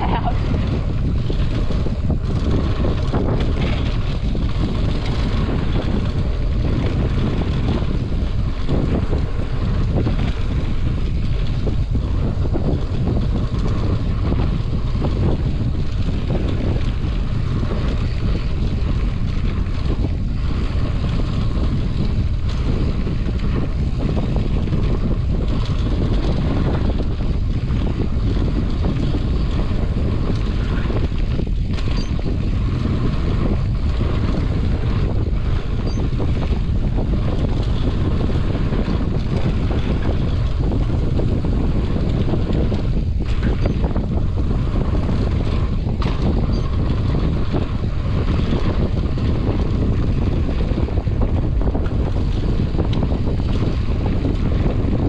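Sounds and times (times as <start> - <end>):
bike rattling: 0.0 - 55.0
tyres rumbling over dirt: 0.0 - 55.0
wind on microphone: 0.0 - 55.0.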